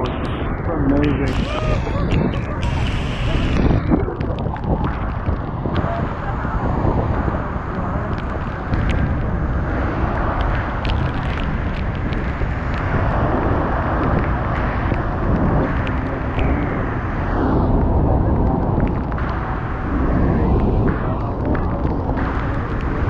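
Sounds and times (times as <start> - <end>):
waterfall roaring: 0.0 - 19.8
wind buffeting microphone: 0.0 - 23.0.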